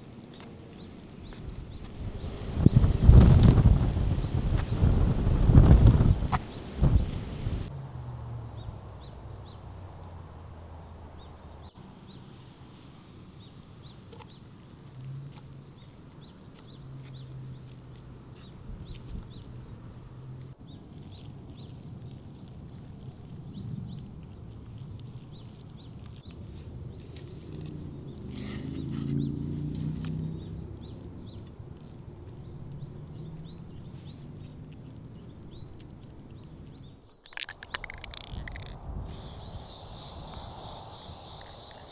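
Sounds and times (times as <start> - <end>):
small birds chirping: 0.0 - 7.7, 8.5 - 41.9.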